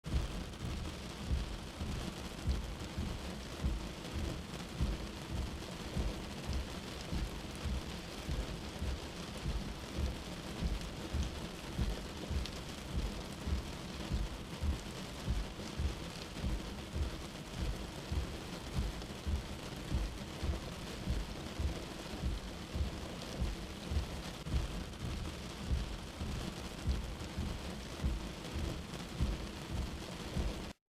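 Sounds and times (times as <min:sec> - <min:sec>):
rain hissing on glass: 0:00.0 - 0:30.8
windscreen wipers thumping: 0:00.1 - 0:30.7.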